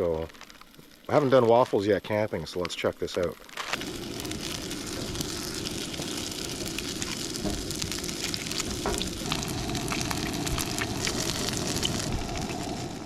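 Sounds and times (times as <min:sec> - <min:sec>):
sausages sizzling in a frying pan: 0:00.0 - 0:13.0.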